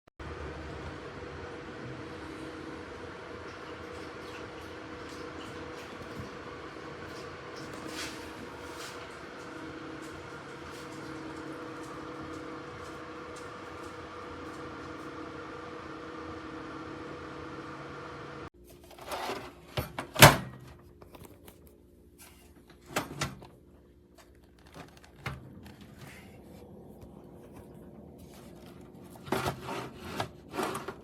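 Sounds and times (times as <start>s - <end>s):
computer fans humming: 0.2s - 18.5s, 24.2s - 31.0s.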